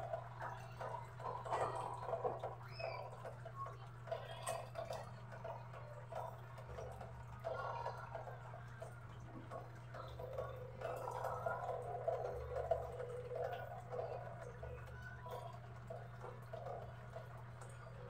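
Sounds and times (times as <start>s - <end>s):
rain dripping on concrete: 0.0s - 18.0s.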